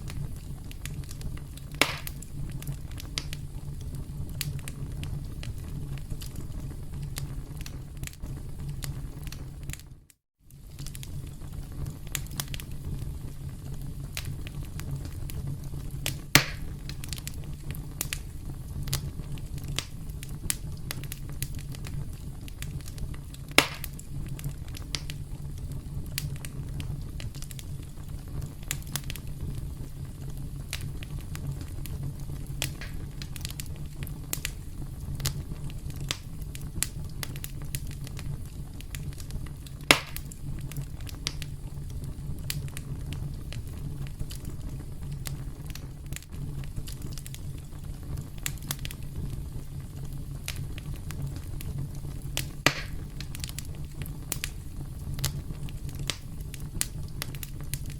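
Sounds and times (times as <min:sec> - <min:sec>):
campfire rumbling and crackling: 0:00.0 - 0:57.9
loud fire pops: 0:00.0 - 0:57.9.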